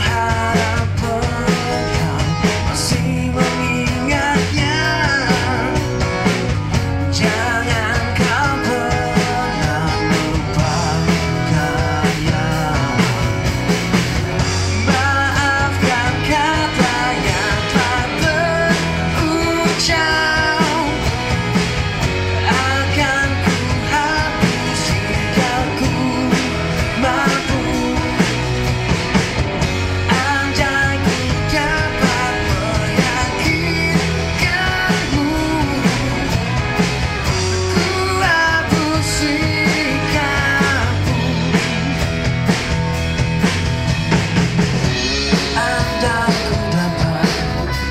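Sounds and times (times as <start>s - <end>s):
man singing into microphone: 0.0s - 13.4s, 14.6s - 21.2s, 22.4s - 28.6s, 30.0s - 36.6s, 37.5s - 41.9s, 45.3s - 47.9s
steady beat: 0.0s - 47.8s
electric guitar: 0.0s - 47.9s.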